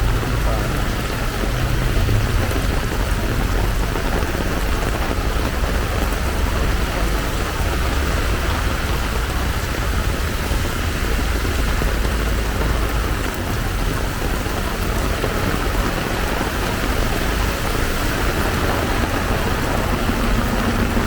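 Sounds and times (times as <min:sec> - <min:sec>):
heavy rain hissing: 0:00.0 - 0:21.0
low rumble: 0:00.0 - 0:21.0.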